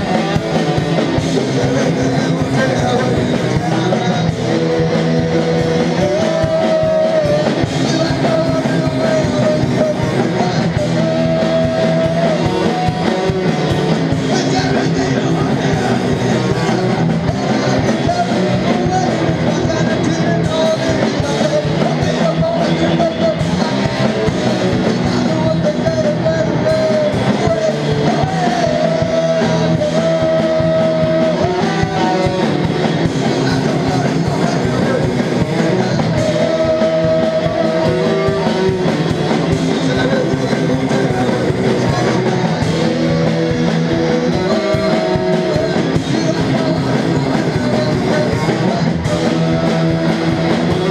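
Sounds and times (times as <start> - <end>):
live punk rock band: 0.0 - 50.9.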